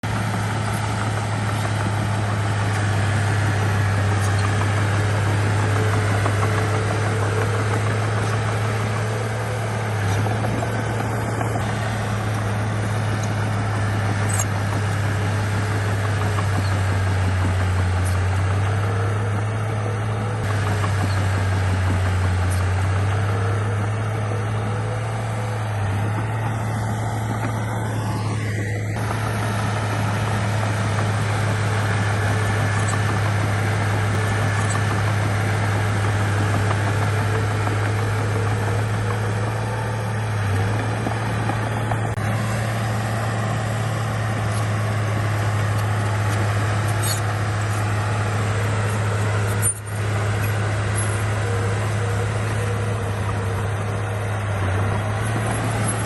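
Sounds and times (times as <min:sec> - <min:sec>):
bulldozer diesel engine droning: 0:00.0 - 0:56.0.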